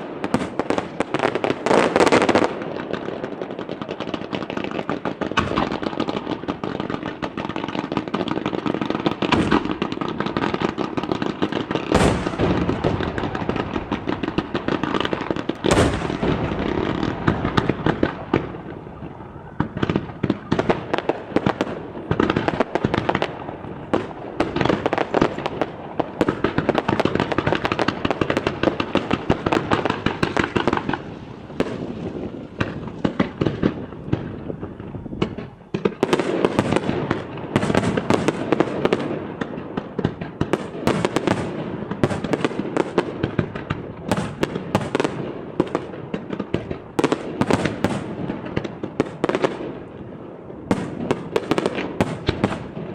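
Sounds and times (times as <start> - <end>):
fireworks booms: 0.0 - 52.9
fireworks bursting and crackling: 0.0 - 52.9.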